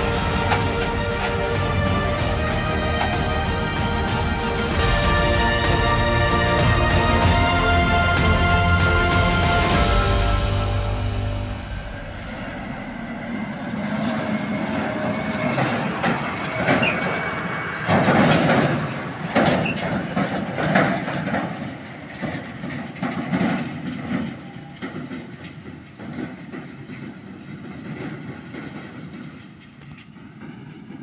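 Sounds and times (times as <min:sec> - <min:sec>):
tractor engine running: 0:00.0 - 0:27.0
trailer clattering and rattling: 0:00.0 - 0:31.0.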